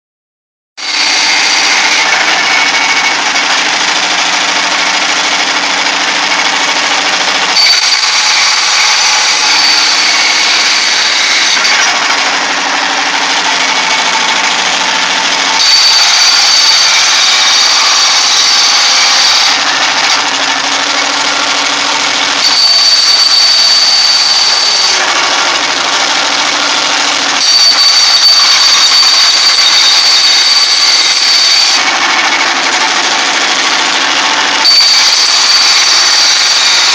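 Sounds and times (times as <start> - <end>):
jackhammer running: 0.8 - 36.9.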